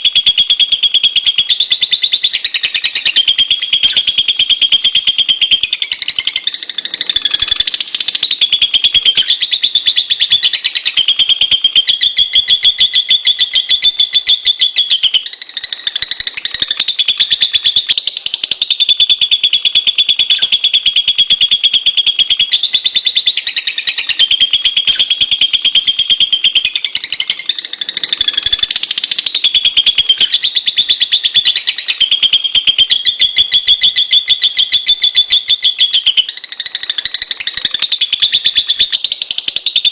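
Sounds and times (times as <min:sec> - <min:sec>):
lovebird chirping rapidly: 0:00.0 - 0:39.9.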